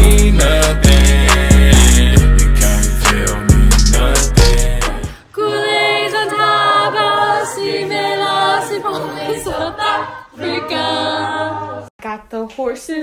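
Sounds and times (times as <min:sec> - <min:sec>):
group singing in harmony: 0:00.0 - 0:11.9.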